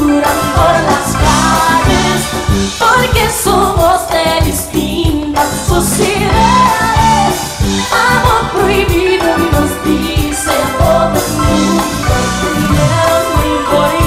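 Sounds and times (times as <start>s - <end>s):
woman singing pop song: 0.0s - 12.0s, 12.6s - 14.0s
backing track with drum beat: 0.0s - 14.0s.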